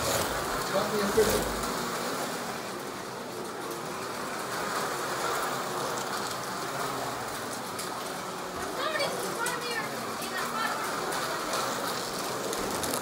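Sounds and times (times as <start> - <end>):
slot car motors whirring: 0.0 - 13.0.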